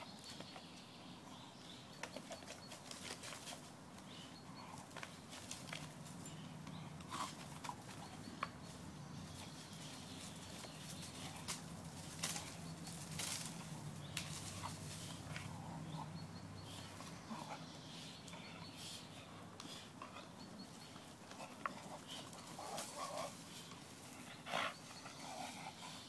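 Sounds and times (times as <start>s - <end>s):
rope and paws rustling on leafy dirt: 2.0s - 26.0s.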